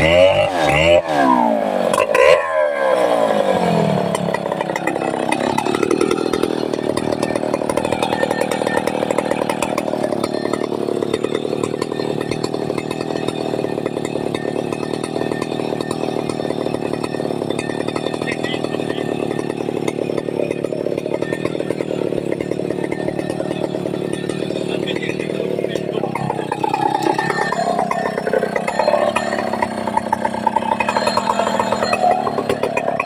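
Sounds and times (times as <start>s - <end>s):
chainsaw revving: 0.0s - 33.0s.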